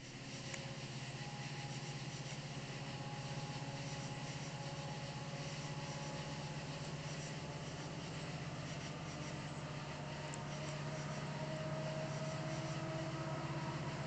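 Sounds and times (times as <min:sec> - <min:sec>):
distant locomotive rumble: 0:00.0 - 0:14.0
thin steady tone: 0:00.0 - 0:14.0.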